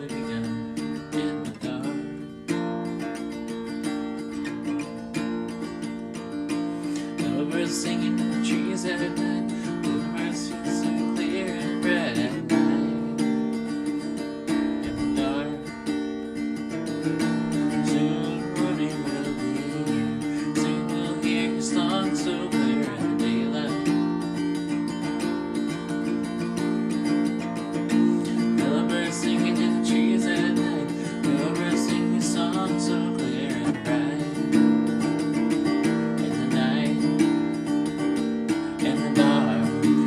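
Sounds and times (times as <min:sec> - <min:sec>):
acoustic guitar strumming chords: 0:00.0 - 0:40.0.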